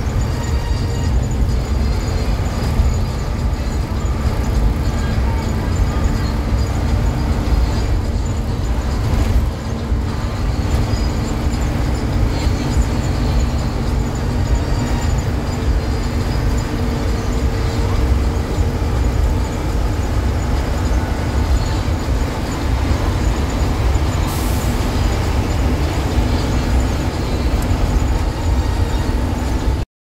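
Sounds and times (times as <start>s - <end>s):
bus engine drone: 0.0s - 29.9s
low road rumble: 0.0s - 29.9s.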